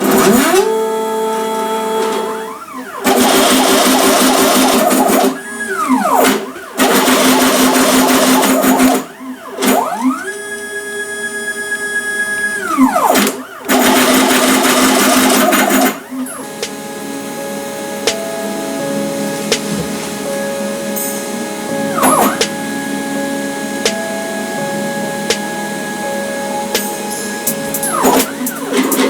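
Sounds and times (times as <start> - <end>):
stepper motors whining: 0.0 - 29.0.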